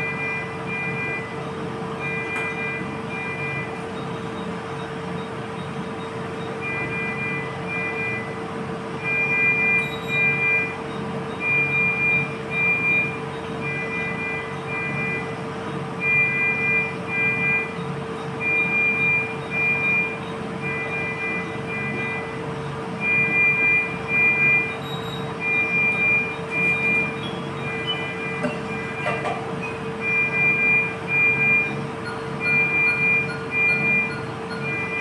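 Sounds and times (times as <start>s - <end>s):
hum of ward equipment: 0.0s - 35.0s
medical monitor alarm beeps: 0.0s - 35.0s.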